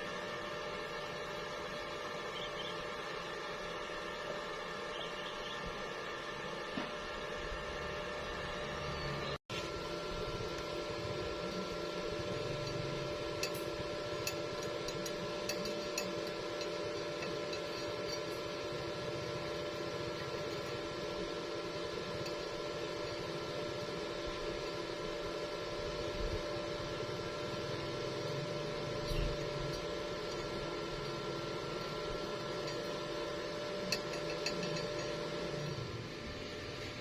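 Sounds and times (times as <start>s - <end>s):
machine hum with hiss: 0.0s - 37.0s.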